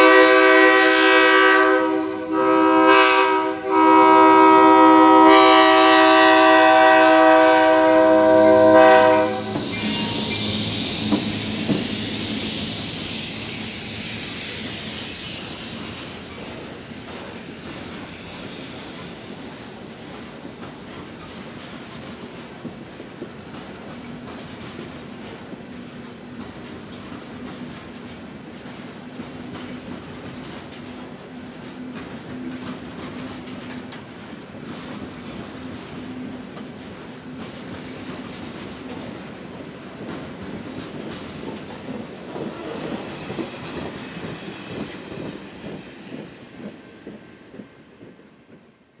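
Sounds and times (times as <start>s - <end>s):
train wheels clacking over rail joints: 5.1s - 48.9s.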